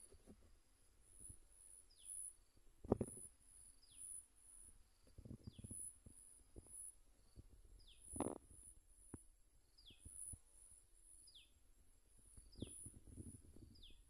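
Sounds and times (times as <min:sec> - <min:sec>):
insect high pulsing buzz: 0:00.0 - 0:14.0.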